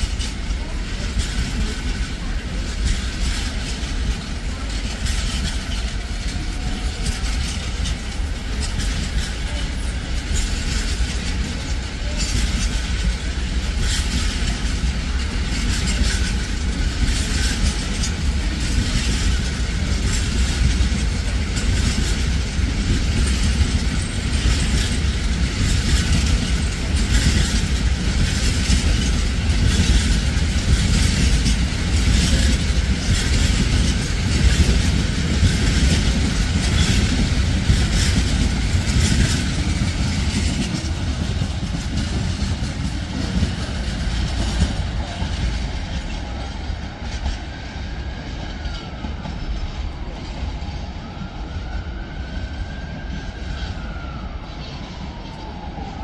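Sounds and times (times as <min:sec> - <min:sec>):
train wheel clicks: 0:00.0 - 0:49.8
train rumbling on track: 0:00.0 - 0:56.0.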